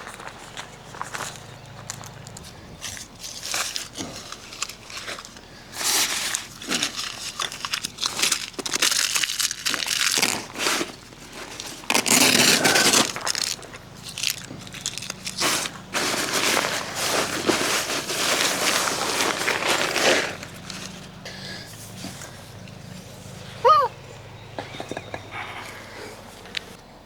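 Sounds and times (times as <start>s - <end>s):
crinkling and rustling: 0.0s - 23.4s.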